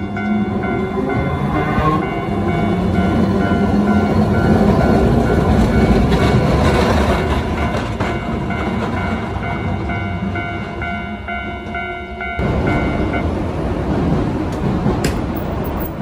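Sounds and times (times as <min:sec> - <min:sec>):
level crossing warning bell: 0:00.0 - 0:13.6
tram rumbling over rails: 0:00.0 - 0:16.0.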